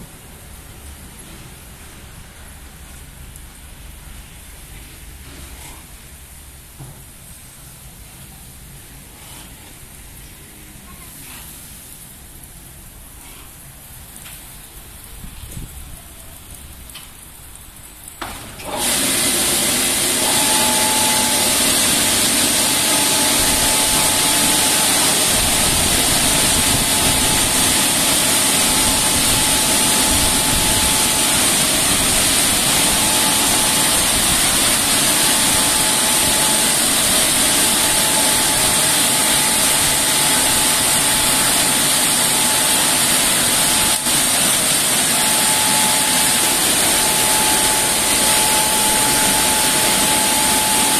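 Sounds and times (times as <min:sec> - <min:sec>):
car wash drying blowers: 0:00.0 - 0:15.7, 0:17.8 - 0:50.9.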